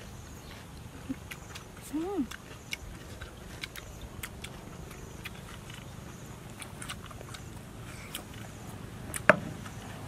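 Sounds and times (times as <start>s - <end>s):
clicks of eating: 0.0s - 10.0s
people chewing: 0.0s - 10.0s.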